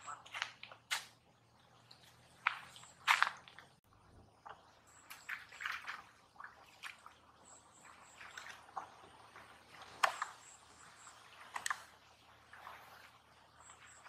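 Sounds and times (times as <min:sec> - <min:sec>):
footsteps wading through muddy water: 0:00.0 - 0:14.0.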